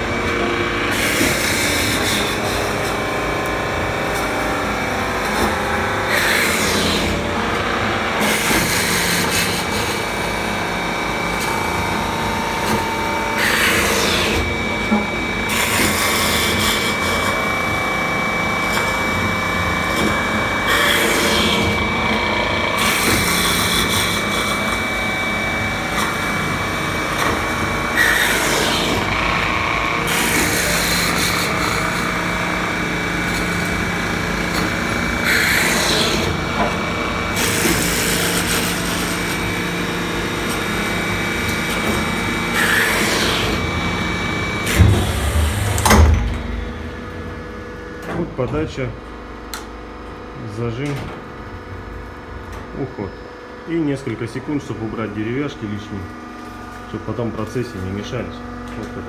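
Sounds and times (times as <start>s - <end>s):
wood lathe cutting wood: 0.0s - 48.0s.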